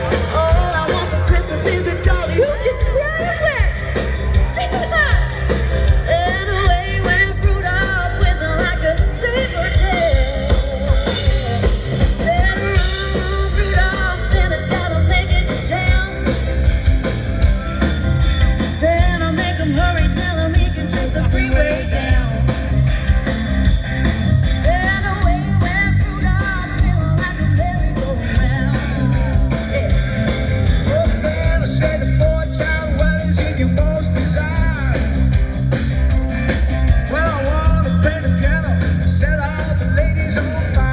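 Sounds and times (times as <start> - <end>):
person singing: 0.0 - 17.0, 17.6 - 23.2, 24.4 - 35.3
drums: 0.0 - 40.9
live rock and roll band: 0.0 - 40.9.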